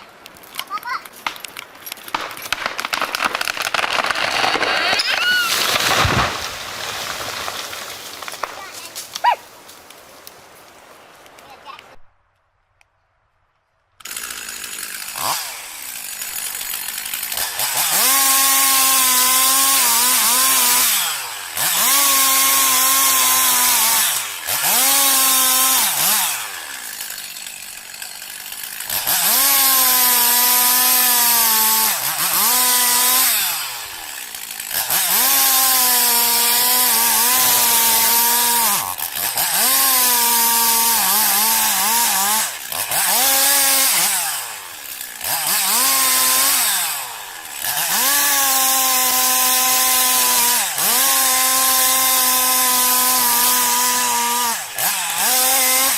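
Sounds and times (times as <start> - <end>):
chainsaw cutting wood: 0.0 - 10.0, 14.0 - 55.9.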